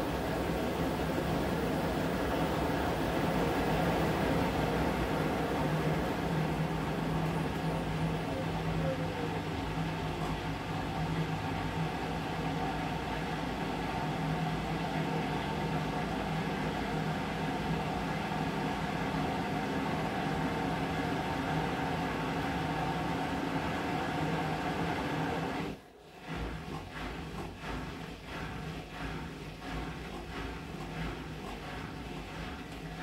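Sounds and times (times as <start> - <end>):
washing machine motor hum: 0.0 - 33.0.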